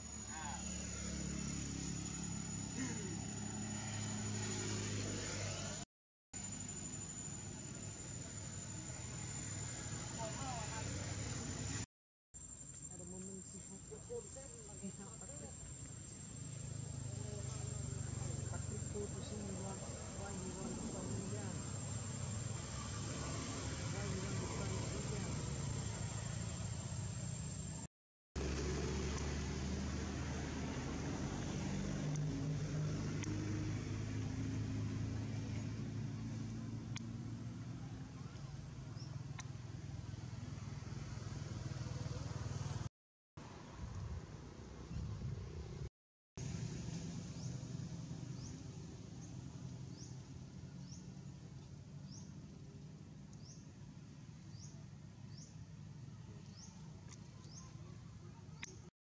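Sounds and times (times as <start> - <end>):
low motor drone: 0.0 - 11.9, 12.9 - 42.9, 45.2 - 58.0.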